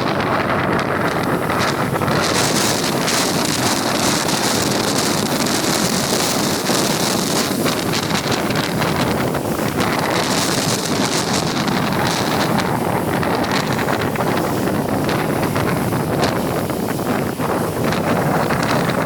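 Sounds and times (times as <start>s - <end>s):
waves breaking: 0.0s - 19.0s
wind buffeting microphone: 0.0s - 19.0s.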